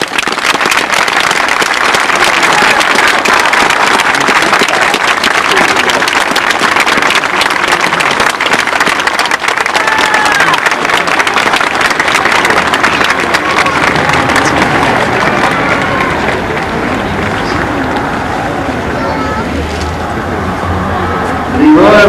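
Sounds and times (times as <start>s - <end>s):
crowd applauding: 0.0s - 19.4s.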